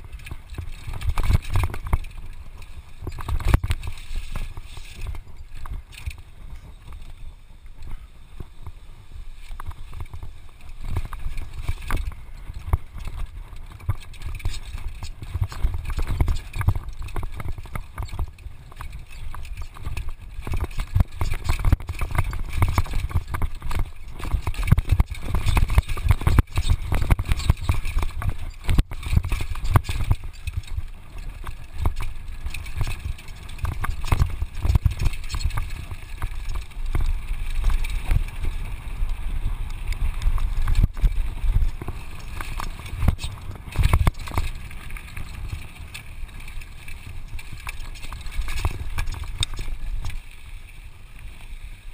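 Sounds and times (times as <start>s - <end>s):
mountain bike rattling on rocky trail: 0.0s - 51.9s.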